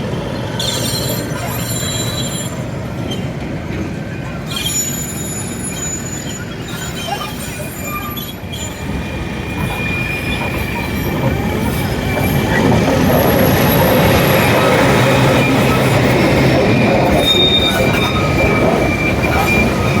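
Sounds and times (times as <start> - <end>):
train cars rumbling on track: 0.0 - 20.0
high wheel squeals: 0.4 - 3.4, 4.4 - 20.0.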